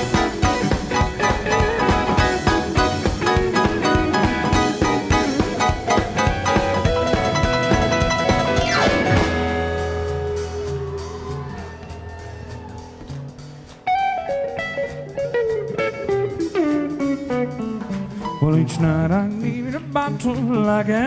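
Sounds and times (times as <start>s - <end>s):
electric guitar sliding notes: 0.0s - 19.1s
country band playing: 0.0s - 21.0s
drums: 0.0s - 21.0s.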